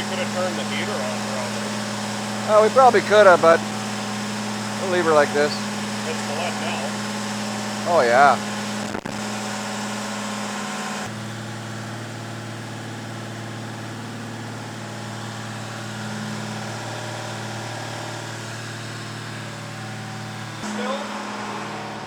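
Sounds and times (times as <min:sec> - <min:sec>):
engine running at raised idle: 0:00.0 - 0:22.0.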